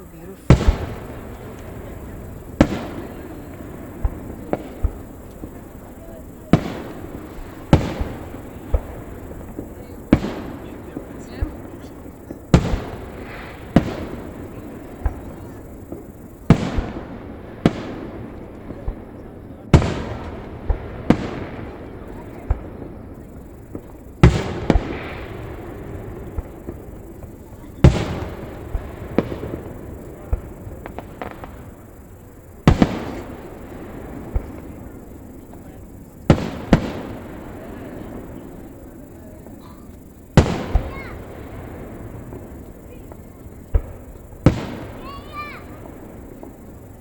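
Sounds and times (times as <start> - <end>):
crackling firework pops: 0.0 - 47.0
firework booms with echo: 0.0 - 47.0.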